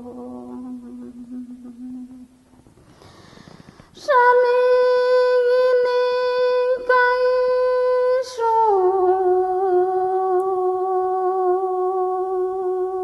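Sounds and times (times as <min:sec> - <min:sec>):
woman singing long held notes: 0:00.0 - 0:02.3, 0:03.9 - 0:13.0.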